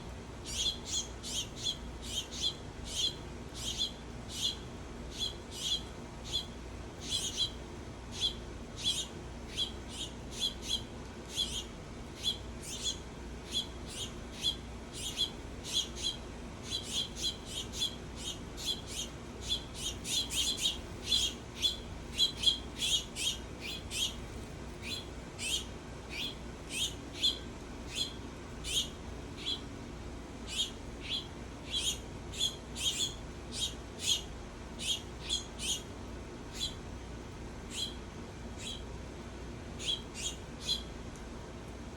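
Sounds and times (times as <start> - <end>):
faint low hum: 0.0 - 41.9
songbirds chip calls: 0.4 - 24.2, 24.8 - 29.7, 30.4 - 35.9, 36.5 - 36.8, 37.7 - 38.0, 38.6 - 38.9, 39.8 - 40.9.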